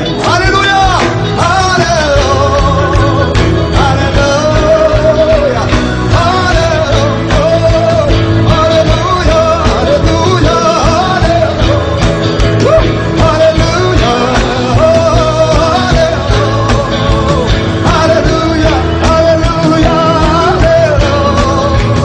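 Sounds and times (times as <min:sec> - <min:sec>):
band with steady beat: 0:00.0 - 0:22.0
worship song singing: 0:00.0 - 0:22.0.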